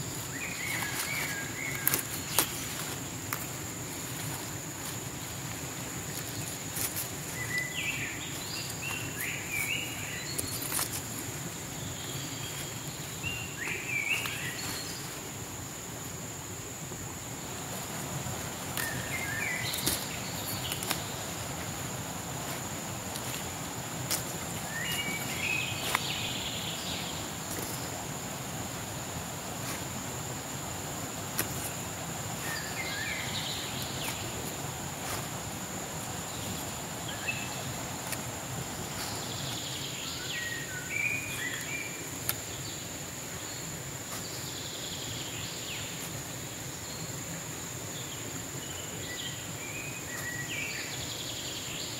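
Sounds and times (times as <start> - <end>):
high insect trill: 0.0 - 51.9.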